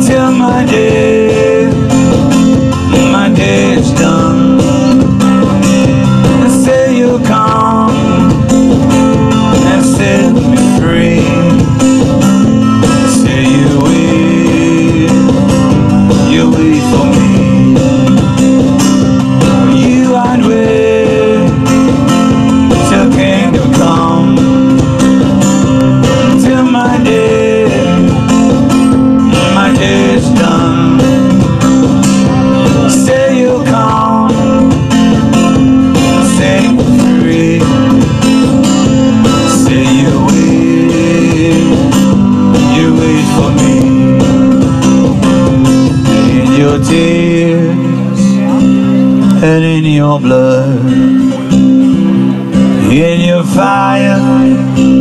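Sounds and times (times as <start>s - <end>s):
steady percussive beat: 0.0s - 49.6s
strummed guitar: 0.0s - 55.0s.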